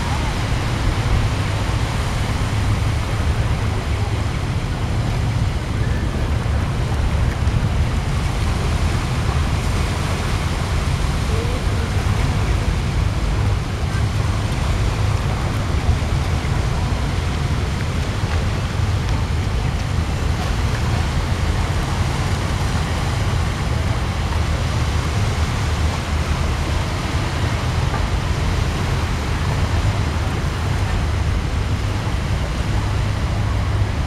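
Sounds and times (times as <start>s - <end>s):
hiss of outdoor noise: 0.0s - 34.0s
wind buffeting microphone: 0.0s - 34.0s.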